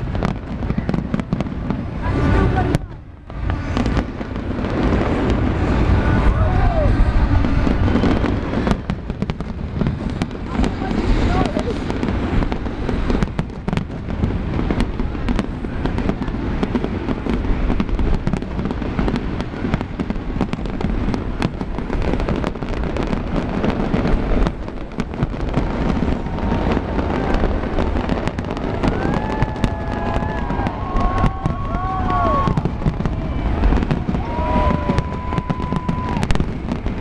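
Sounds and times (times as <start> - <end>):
fireworks cracking and booming: 0.0 - 37.0.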